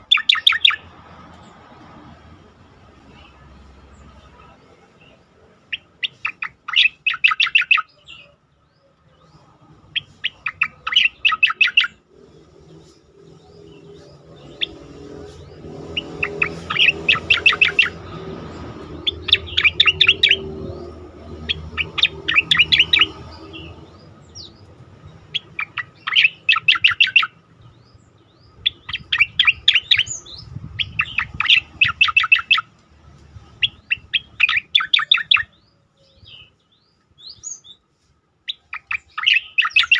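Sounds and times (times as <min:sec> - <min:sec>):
bird singing sharp high bursts: 0:00.0 - 0:00.9, 0:05.7 - 0:08.3, 0:09.9 - 0:32.7, 0:33.5 - 0:37.8, 0:38.5 - 0:39.9.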